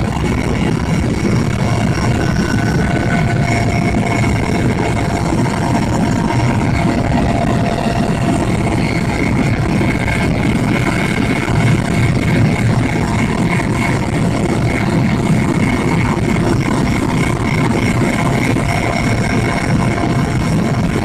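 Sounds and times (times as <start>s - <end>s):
faint steady whine: 0.0s - 21.0s
helicopter engine and rotor drone: 0.0s - 21.0s.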